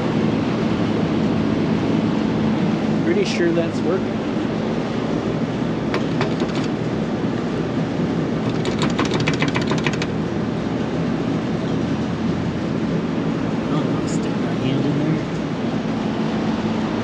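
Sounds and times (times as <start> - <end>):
air-conditioning unit humming: 0.0 - 17.0.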